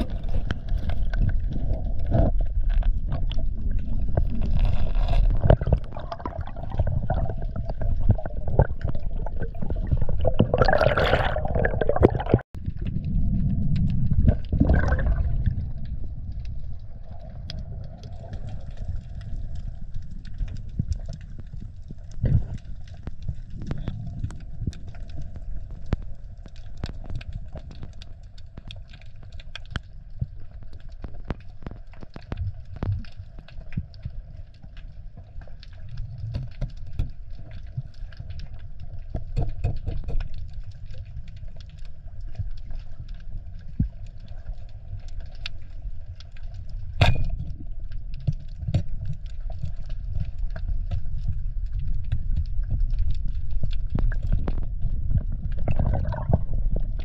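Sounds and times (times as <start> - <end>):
low underwater rumble: 0.0 - 57.0.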